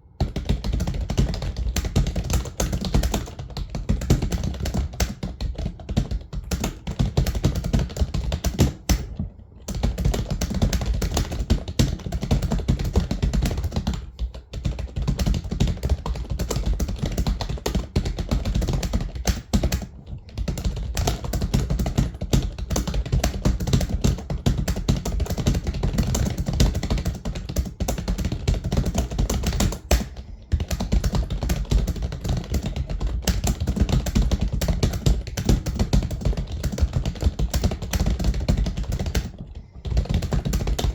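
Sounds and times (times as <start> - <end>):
fast typing on keyboard: 0.1 - 40.9.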